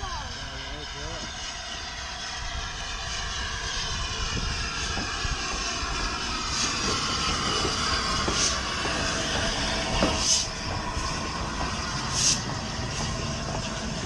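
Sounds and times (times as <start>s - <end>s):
train engine drone: 0.0s - 14.0s
train rumble: 0.0s - 14.0s.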